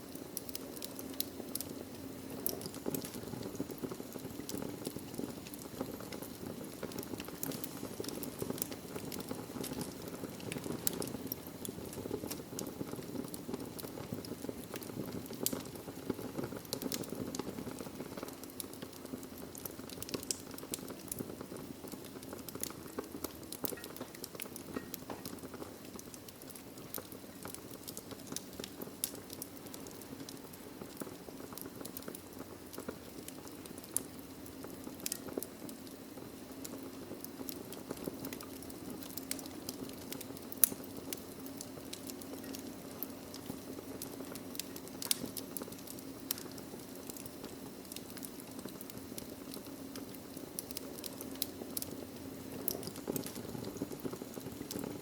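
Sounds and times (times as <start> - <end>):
hiss of flames: 0.0 - 55.0
wood crackling and popping: 0.0 - 55.0.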